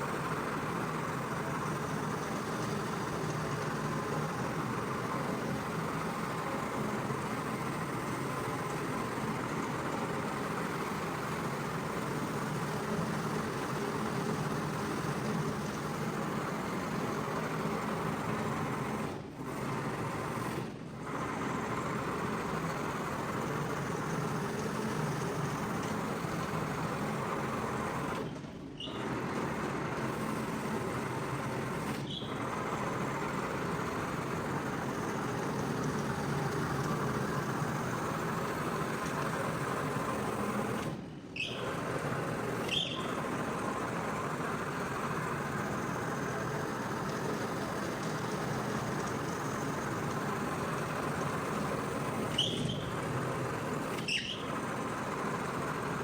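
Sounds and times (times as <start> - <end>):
carpet cleaning machine running: 0.0 - 56.0.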